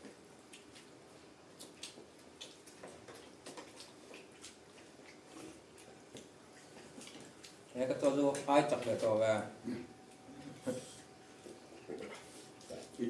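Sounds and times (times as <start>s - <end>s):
chewing and lip-smacking: 0.0s - 9.0s, 11.0s - 13.0s.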